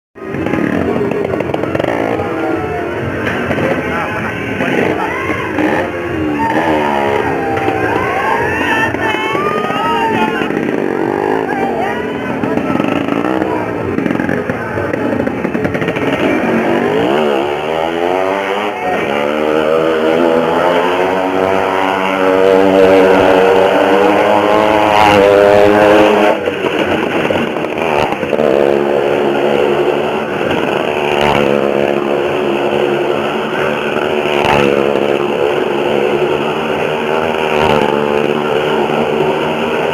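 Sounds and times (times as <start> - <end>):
vehicle engine revving: 0.2 - 39.9.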